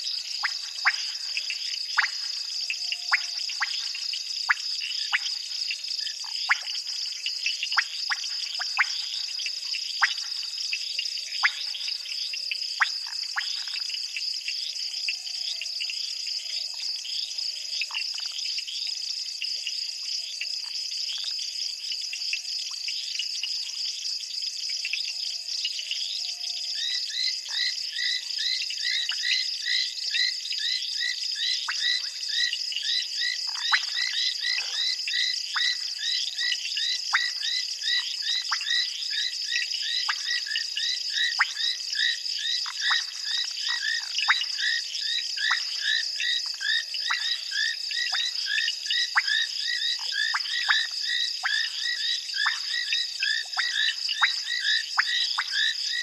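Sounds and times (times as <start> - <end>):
frogs chirping in chorus: 0.0 - 56.0
insects trilling: 0.0 - 56.0.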